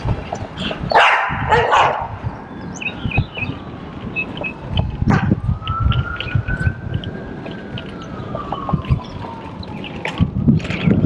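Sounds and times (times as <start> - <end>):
bicycle road noise: 0.0 - 11.0
wind rumble: 0.0 - 11.0
birds chirping: 0.2 - 10.2
distant siren wailing: 0.8 - 11.0.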